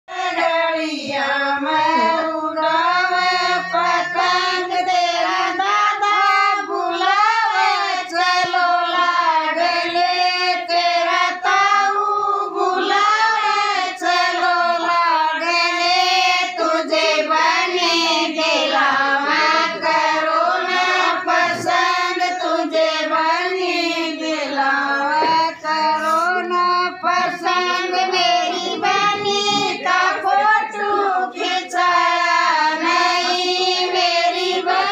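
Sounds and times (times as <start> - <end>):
women singing folk song: 0.1 - 34.9.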